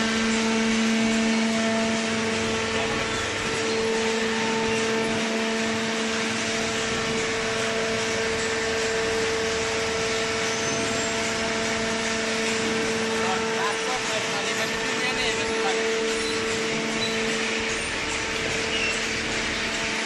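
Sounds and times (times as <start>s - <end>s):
baler machine humming: 0.0s - 20.0s.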